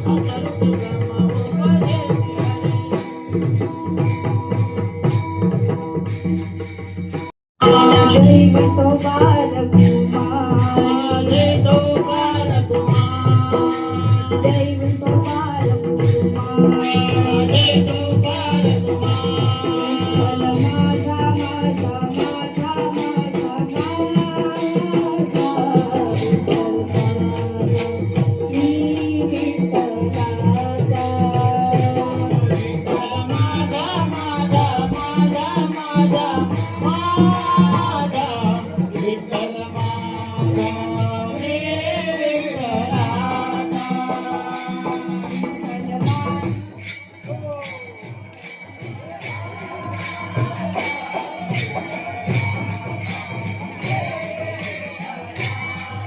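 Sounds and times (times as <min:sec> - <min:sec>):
jingling hand percussion: 0:00.0 - 0:56.0
voices singing devotional melody: 0:00.0 - 0:56.0.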